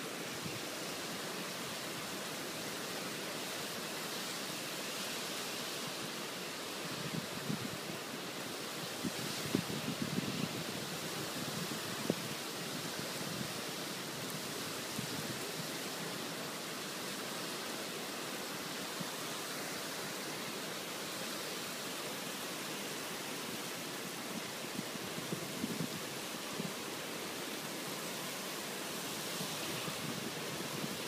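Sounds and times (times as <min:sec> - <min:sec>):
heavy rain pouring: 0:05.6 - 0:31.0.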